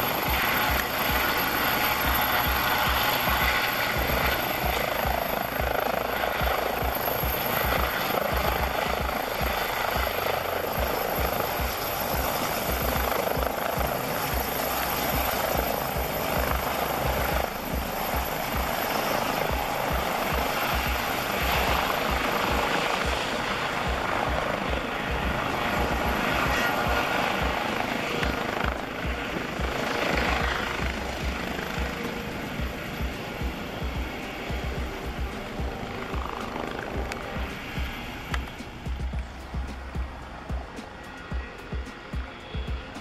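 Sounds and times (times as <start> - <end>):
helicopter hovering: 0.0 - 43.0.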